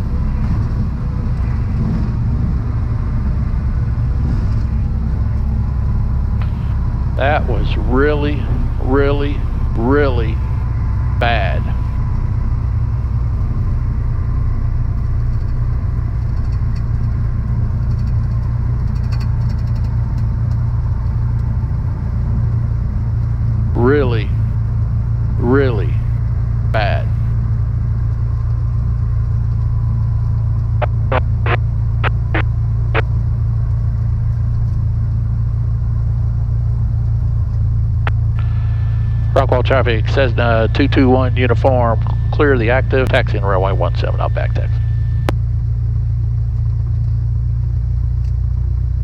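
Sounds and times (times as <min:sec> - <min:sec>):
propeller plane engine drone: 0:00.0 - 0:49.0.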